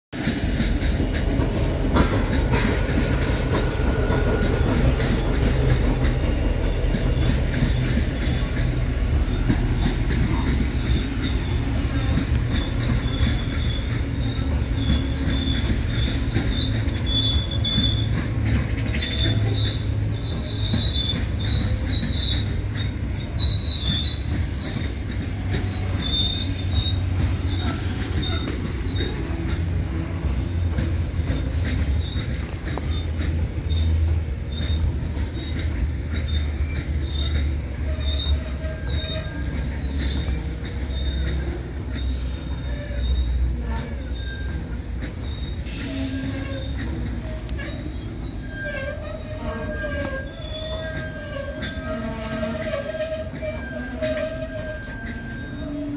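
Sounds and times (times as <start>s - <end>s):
freight train rumble: 0.1s - 55.9s
wheels squealing: 0.2s - 55.9s.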